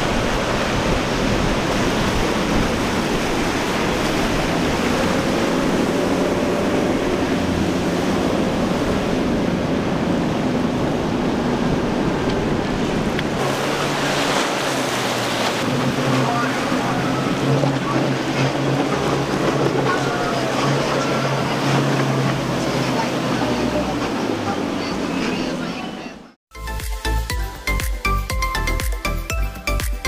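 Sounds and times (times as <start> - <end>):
outboard engines humming: 0.0 - 30.0
waves and spray: 0.0 - 30.0.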